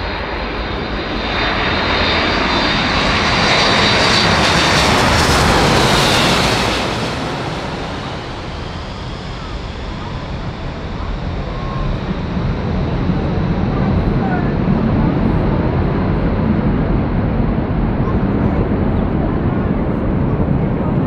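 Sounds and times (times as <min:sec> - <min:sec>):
jet aircraft roar overhead: 0:00.0 - 0:21.0.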